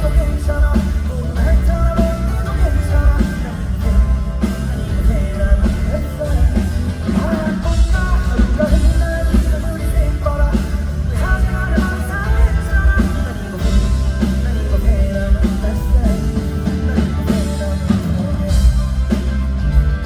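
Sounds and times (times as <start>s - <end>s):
live rock band playing: 0.0s - 20.0s
man singing: 0.0s - 20.0s.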